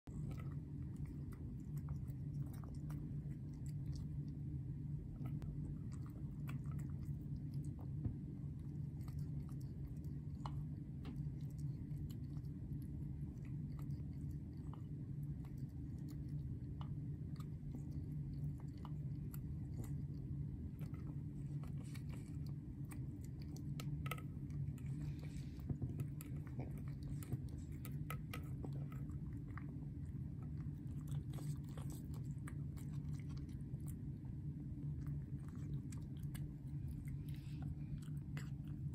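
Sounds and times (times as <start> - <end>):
steady low hum: 0.0 - 38.9
cat eating wet food: 0.1 - 38.9.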